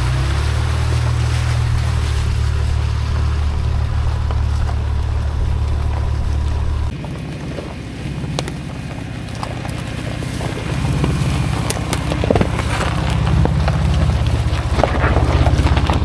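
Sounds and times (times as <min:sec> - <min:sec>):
engine droning under load: 0:00.0 - 0:16.0
gravel clicks and knocks: 0:00.0 - 0:16.0.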